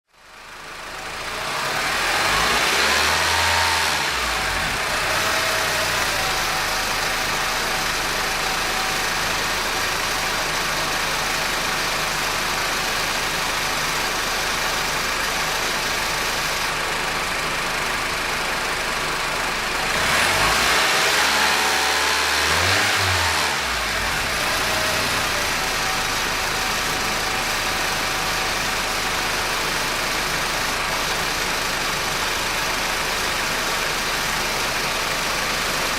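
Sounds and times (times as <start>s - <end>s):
car engine running: 0.2s - 35.9s.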